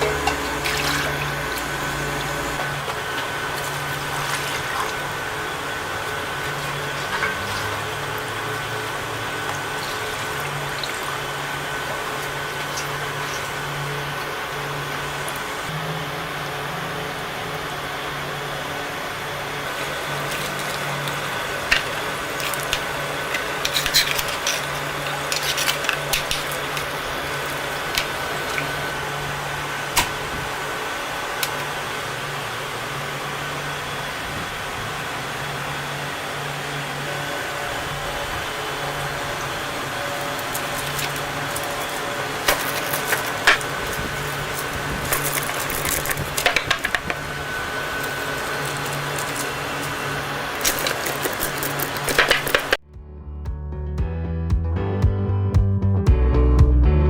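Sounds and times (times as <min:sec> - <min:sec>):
machine humming: 0:00.0 - 0:53.3.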